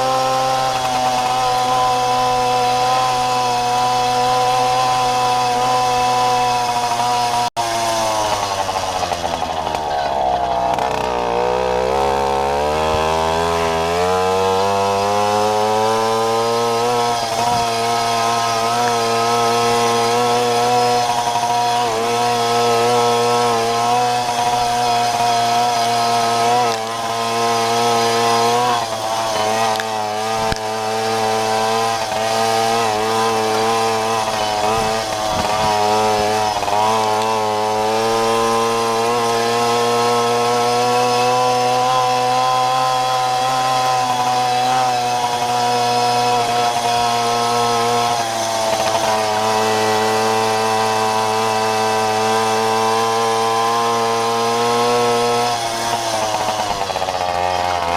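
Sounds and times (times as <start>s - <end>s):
moped two-stroke engine running: 0.0s - 57.9s.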